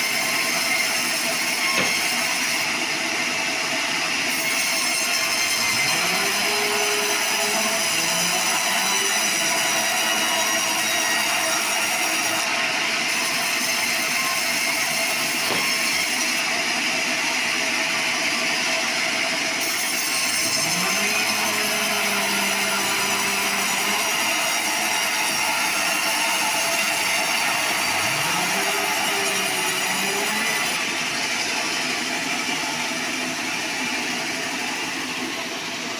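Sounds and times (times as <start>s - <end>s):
bandsaw cutting timber: 0.0s - 35.9s.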